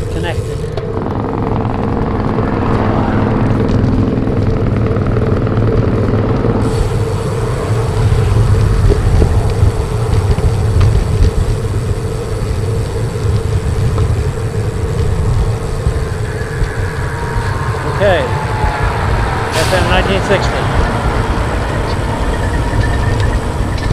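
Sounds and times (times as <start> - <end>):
passing vehicle engine hum: 0.0 - 23.9
wind buffeting microphone: 0.0 - 23.9.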